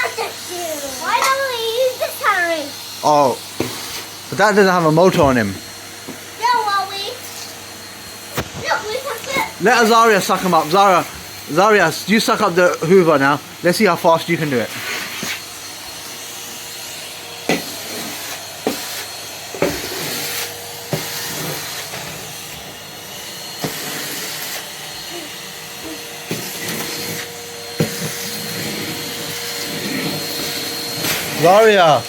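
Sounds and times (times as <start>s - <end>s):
vacuum cleaner running: 0.0s - 32.0s.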